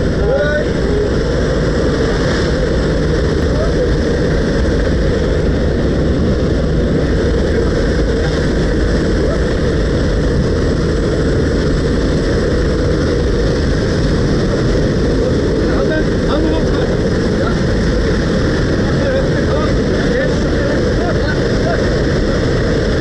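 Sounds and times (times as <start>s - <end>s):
propeller engine drone: 0.0s - 23.0s.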